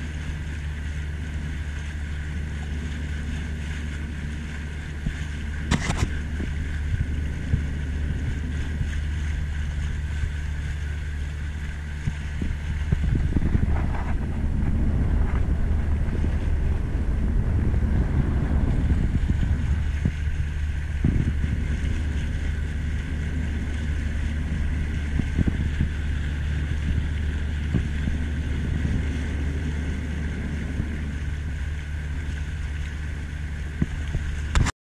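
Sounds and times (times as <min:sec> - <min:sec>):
water lapping against boat: 0:00.0 - 0:34.7
wind rumbling on microphone: 0:00.0 - 0:34.7.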